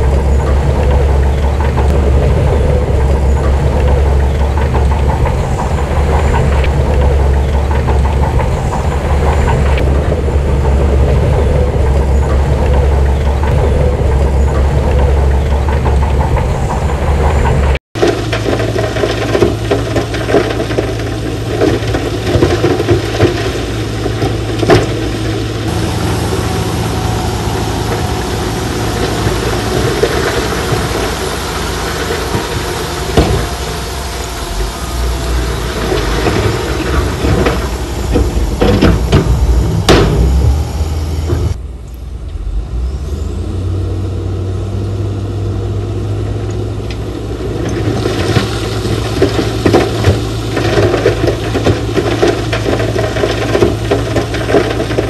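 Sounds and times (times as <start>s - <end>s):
engine rattling and knocking: 0.0s - 41.6s, 46.4s - 55.0s
diesel engine low rumble: 0.0s - 55.0s.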